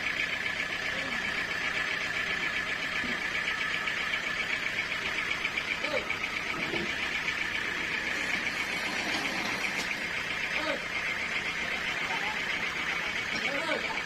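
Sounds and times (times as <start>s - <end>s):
sawmill machinery whirring: 0.0s - 14.0s.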